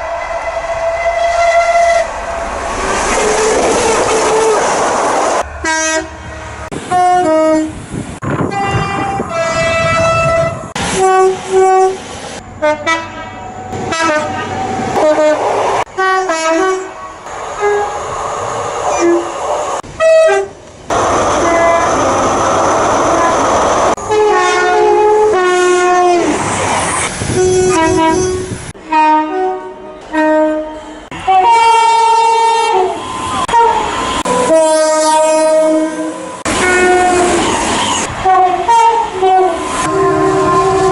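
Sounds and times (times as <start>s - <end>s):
two-tone train horns: 0.0s - 2.5s, 5.4s - 18.0s, 18.9s - 19.3s, 19.9s - 22.3s, 23.0s - 26.4s, 27.3s - 40.9s
train running past: 0.0s - 40.9s.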